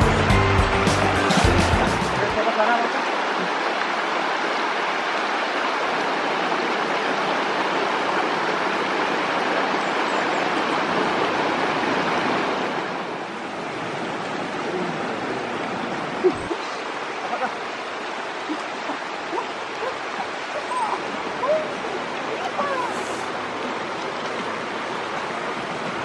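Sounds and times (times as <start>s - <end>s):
river rushing over stones: 0.0s - 26.0s.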